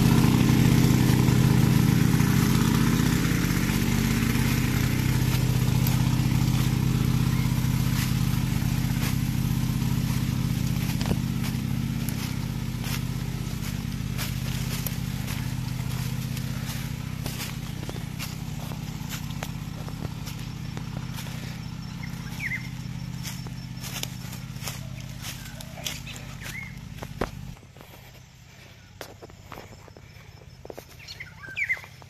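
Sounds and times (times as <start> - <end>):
footsteps on dry leaves: 0.0 - 32.0
small petrol engine running: 0.0 - 32.0.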